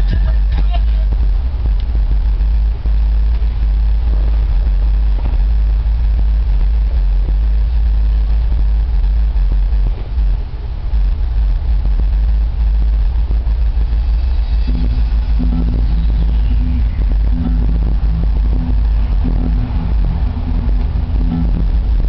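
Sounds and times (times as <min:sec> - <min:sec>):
bass-heavy music in car: 0:00.0 - 0:22.0.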